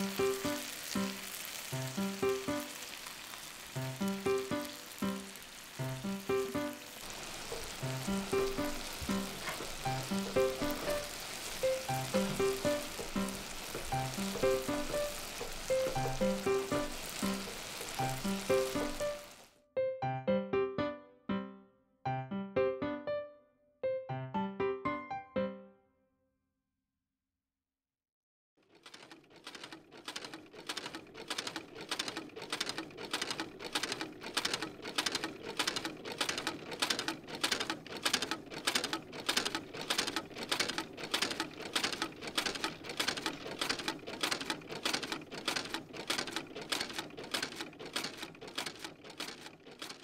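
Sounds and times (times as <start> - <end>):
cutting machine clattering: 0.0 - 19.5, 28.6 - 50.0.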